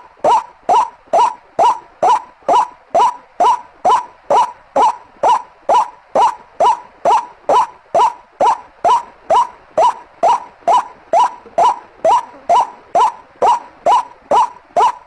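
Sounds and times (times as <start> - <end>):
bird call rising notes: 0.0 - 15.0.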